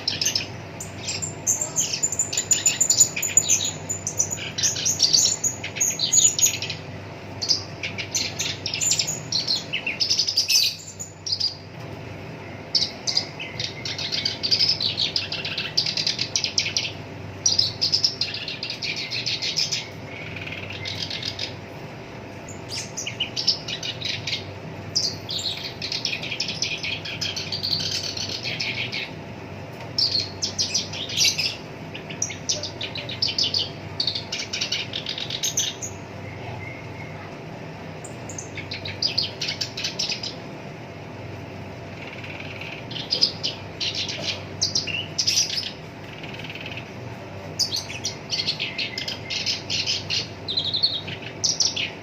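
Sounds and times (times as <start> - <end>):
bird singing scratchy phrases: 0.0 - 52.0
faint steady hum: 0.0 - 52.0.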